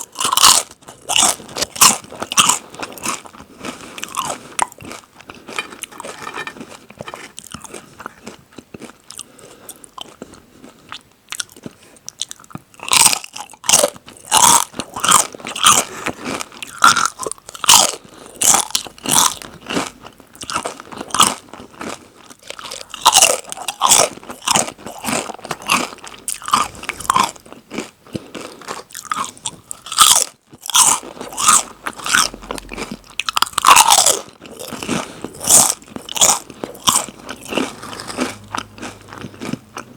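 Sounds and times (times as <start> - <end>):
chips crunching and chewing: 0.0 - 39.9.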